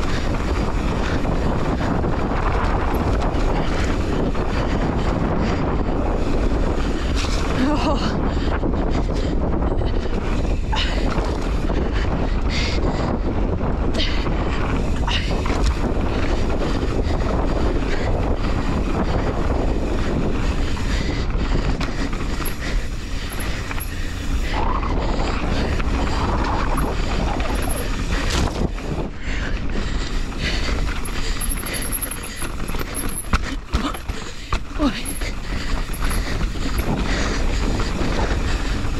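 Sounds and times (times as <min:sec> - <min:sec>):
bike knocks and rattles: 0:00.0 - 0:38.9
bike tyres rolling on dirt: 0:00.0 - 0:38.9
wind buffeting microphone: 0:00.0 - 0:38.9.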